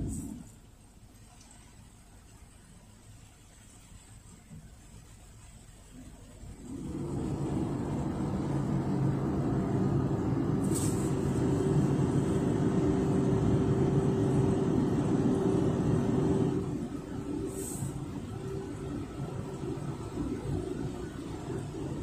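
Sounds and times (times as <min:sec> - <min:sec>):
car wash blowers rushing air: 0:00.0 - 0:00.8, 0:04.8 - 0:22.0.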